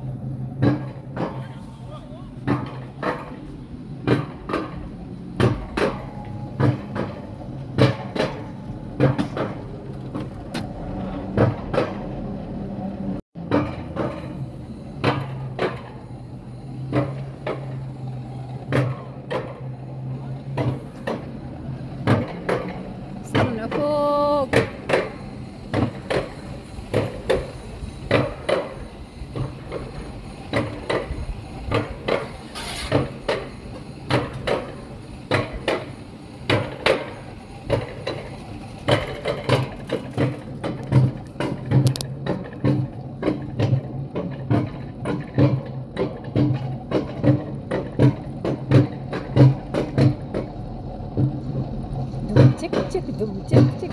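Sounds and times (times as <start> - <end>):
coaster sled clacking on rail: 0.0 - 53.9.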